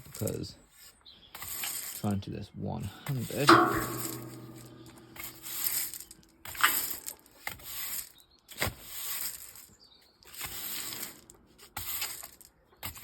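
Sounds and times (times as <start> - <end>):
hand tool scraping ground: 0.0 - 2.0, 3.2 - 13.0.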